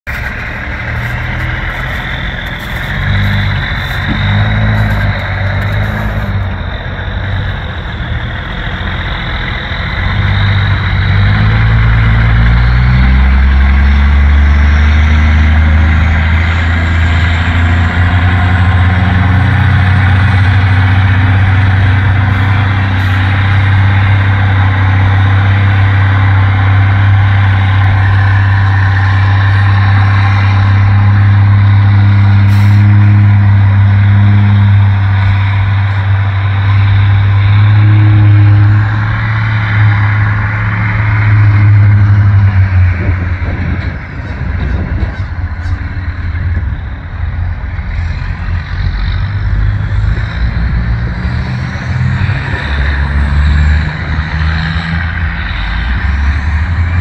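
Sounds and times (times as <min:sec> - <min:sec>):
heavy diesel truck engine: 0:00.0 - 0:57.0.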